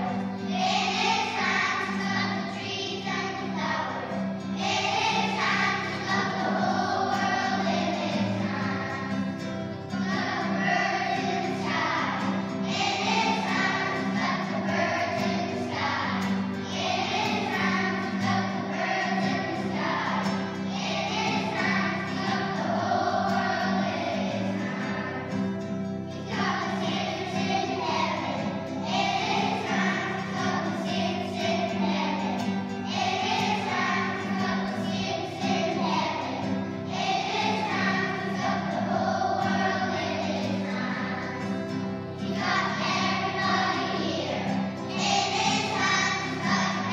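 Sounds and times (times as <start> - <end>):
children singing in unison: 0.0 - 46.9.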